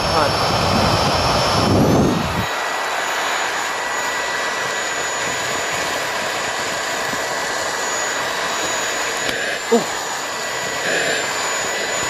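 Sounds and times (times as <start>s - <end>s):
vacuum cleaner motor whining: 0.0s - 12.0s.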